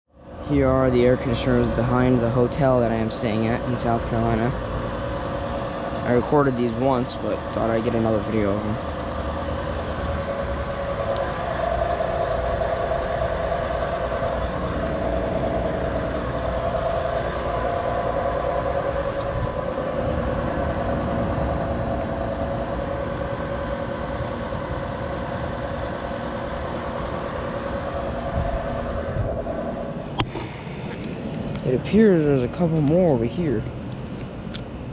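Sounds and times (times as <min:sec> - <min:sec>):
air conditioner units running: 0:00.1 - 0:34.9.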